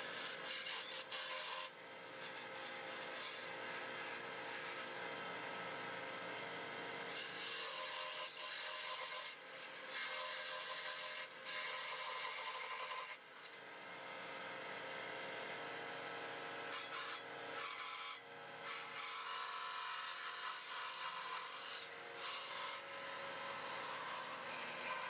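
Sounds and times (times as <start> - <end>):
electric power tool working wood: 0.0 - 25.0.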